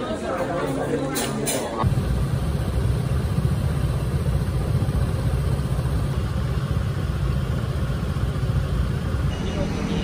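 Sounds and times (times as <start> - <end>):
scooter engine idling: 1.8 - 10.0.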